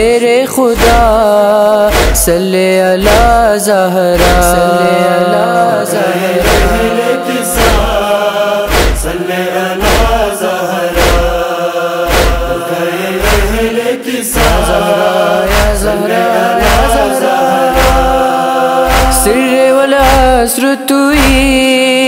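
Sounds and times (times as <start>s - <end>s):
deep thudding beat: 0.0s - 9.2s, 9.8s - 21.7s
wordless chorus chanting: 0.1s - 21.1s.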